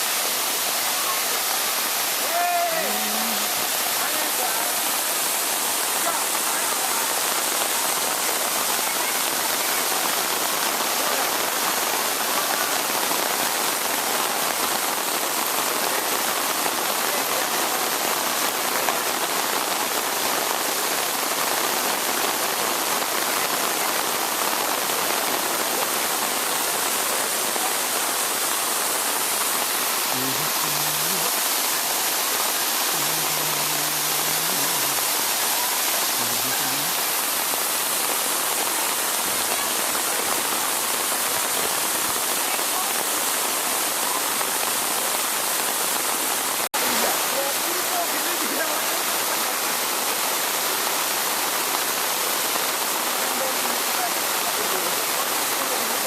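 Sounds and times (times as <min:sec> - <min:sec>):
heavy rain hissing: 0:00.0 - 0:56.0
rushing water: 0:00.0 - 0:56.0.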